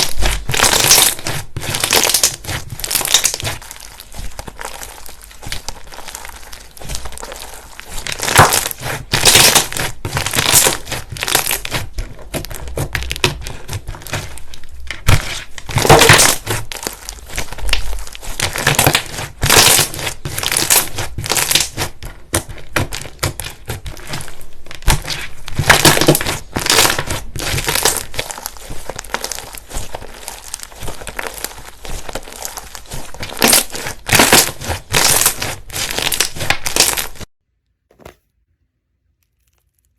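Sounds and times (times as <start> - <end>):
slime squeezed crackling: 0.0 - 37.3, 39.2 - 39.9.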